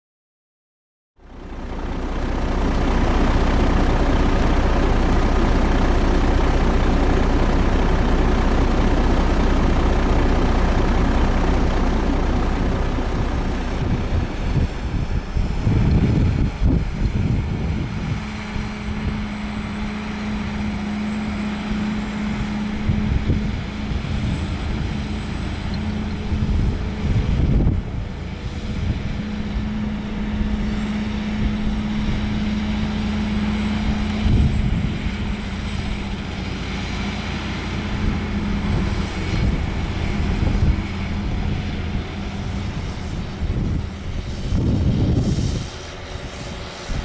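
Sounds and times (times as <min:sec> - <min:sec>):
heavy diesel engines running: 0:01.2 - 0:47.0
truck tipping out load: 0:01.3 - 0:45.2.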